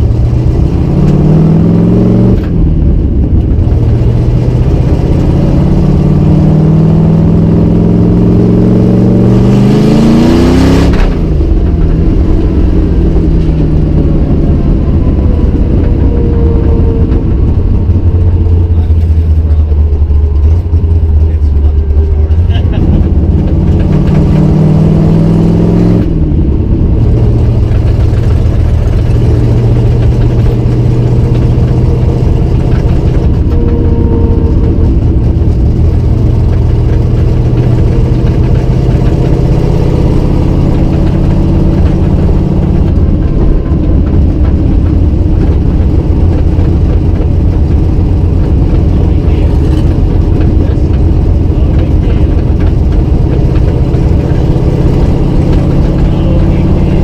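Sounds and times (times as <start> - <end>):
car engine and exhaust in cabin: 0.0 - 57.0.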